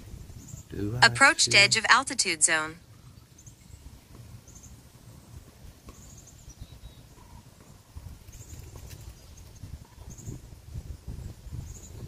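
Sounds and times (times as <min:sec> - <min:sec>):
wind rumbling on microphone: 0:00.0 - 0:01.0, 0:02.8 - 0:12.0.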